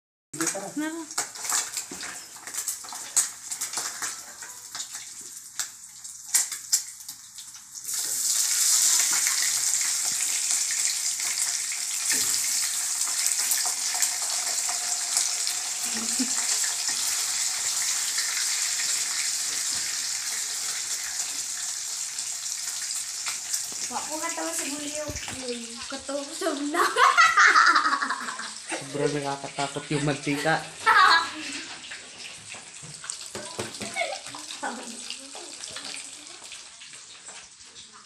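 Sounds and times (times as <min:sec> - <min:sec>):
meat sizzling in oil: 0:00.4 - 0:38.0.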